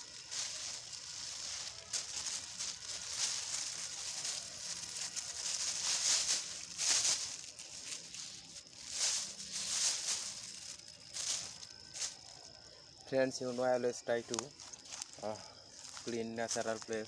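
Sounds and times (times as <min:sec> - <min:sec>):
plastic and dry vegetation rustling: 0:00.0 - 0:12.7, 0:14.2 - 0:17.0.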